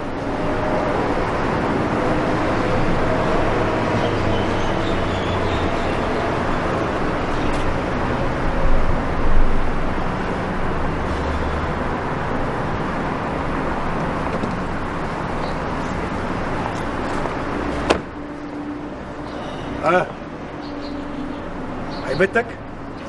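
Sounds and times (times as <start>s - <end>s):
motor vehicle rumble: 0.0s - 23.0s.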